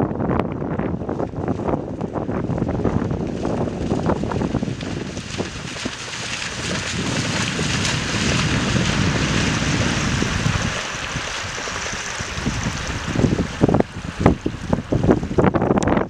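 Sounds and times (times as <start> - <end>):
choppy shallow water: 0.0 - 16.0
wind blowing across microphone: 0.0 - 16.0.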